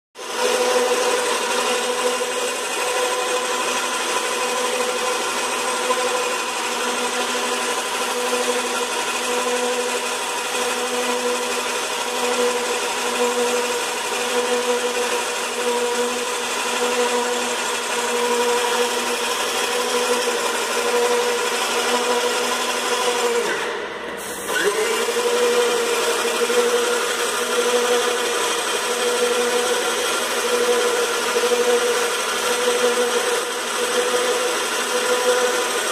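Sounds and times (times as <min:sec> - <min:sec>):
paint sprayer motor humming: 0:00.2 - 0:35.9.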